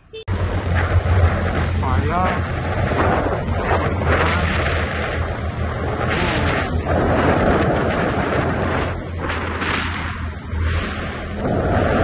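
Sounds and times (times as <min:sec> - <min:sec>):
motorcycle engine drone: 0:00.0 - 0:12.0
wind rushing over microphone: 0:00.3 - 0:12.0.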